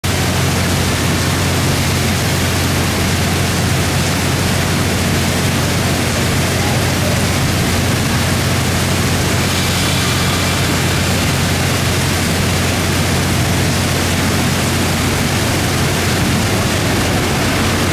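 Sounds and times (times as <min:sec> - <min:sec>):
heavy rain pouring: 0:00.0 - 0:17.9
electric train humming: 0:00.1 - 0:17.9.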